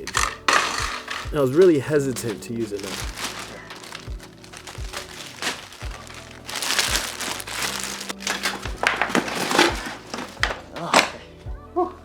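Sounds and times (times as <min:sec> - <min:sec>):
packaging crinkling and rustling: 0:00.0 - 0:11.1
background music with steady beat: 0:00.0 - 0:12.0.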